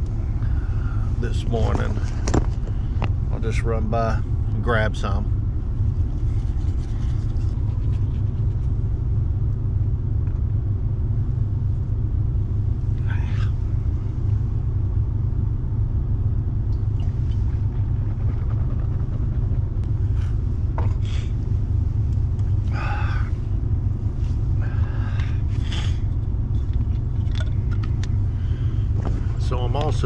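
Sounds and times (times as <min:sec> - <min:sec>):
low rumble: 0:00.0 - 0:30.0.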